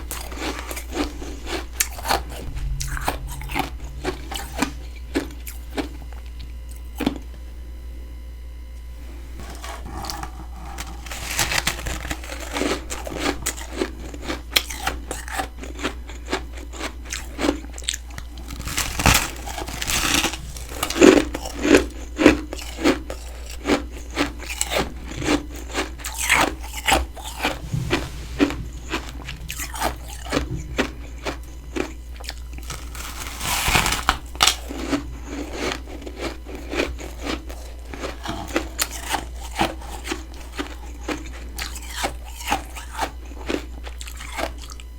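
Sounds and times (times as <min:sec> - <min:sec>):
chewing crunchy frost: 0:00.0 - 0:07.3, 0:09.1 - 0:44.9.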